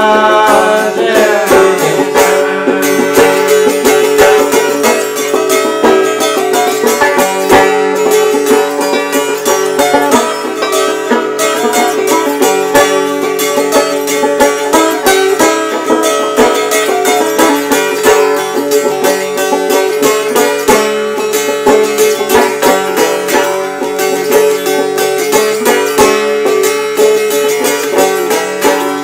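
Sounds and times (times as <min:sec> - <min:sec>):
dulcimer drone note: 0:00.0 - 0:29.0
plucked banjo notes: 0:00.0 - 0:29.0.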